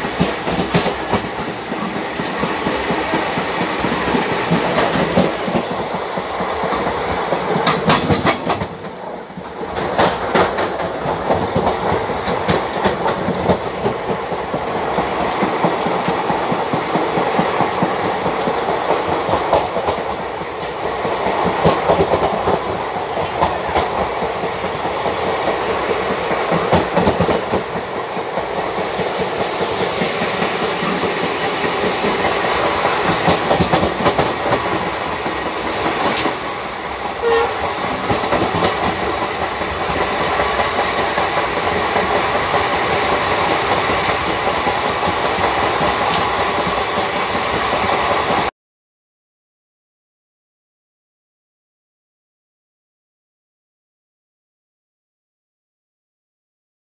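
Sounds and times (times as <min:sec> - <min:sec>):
train wheels rumbling on rail: 0:00.0 - 0:48.5.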